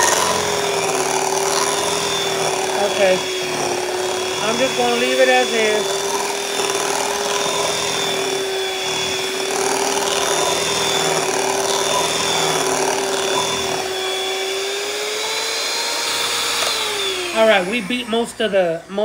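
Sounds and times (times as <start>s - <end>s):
beaters churning thick batter: 0.0s - 19.0s
electric hand mixer whine: 0.0s - 19.0s.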